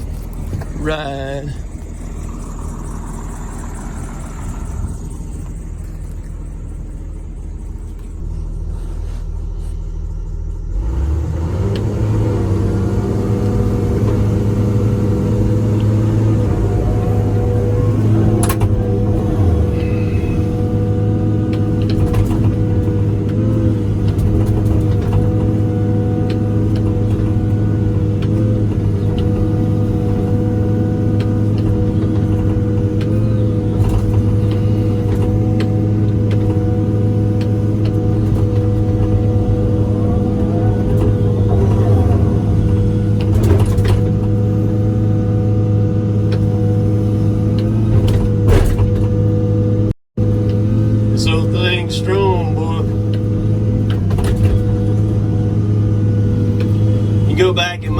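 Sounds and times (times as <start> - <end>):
excavator diesel engine idling: 0.0 - 10.8, 12.0 - 49.6, 50.4 - 57.9.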